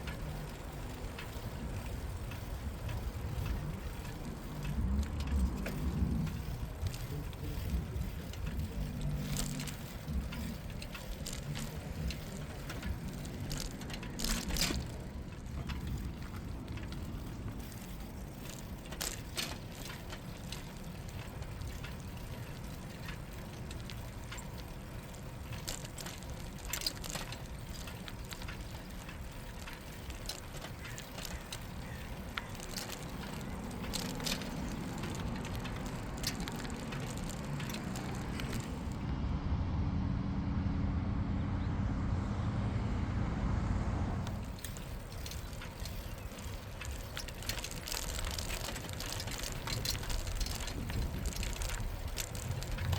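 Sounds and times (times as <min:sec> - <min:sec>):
sharp clicks and ticks: 0:00.0 - 0:39.0, 0:44.2 - 0:52.9
bicycle tyres rumbling on pavement: 0:00.0 - 0:39.1, 0:41.6 - 0:52.9
wind: 0:00.0 - 0:52.9.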